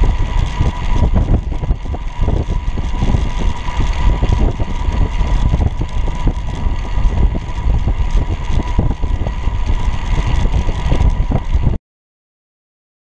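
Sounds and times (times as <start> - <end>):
low road rumble: 0.0 - 11.8
wind rushing over microphone: 0.0 - 11.8.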